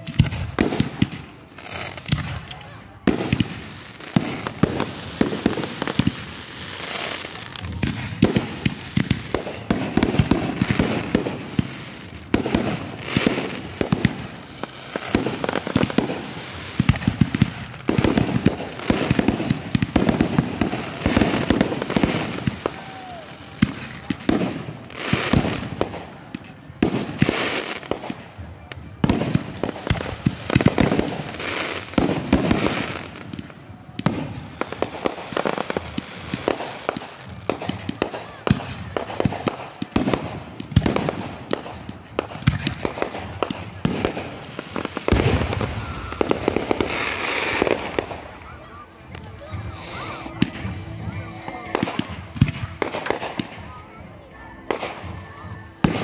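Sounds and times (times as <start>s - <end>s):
fireworks bangs: 0.0s - 53.8s
fireworks crackling: 0.0s - 54.0s, 54.6s - 55.2s.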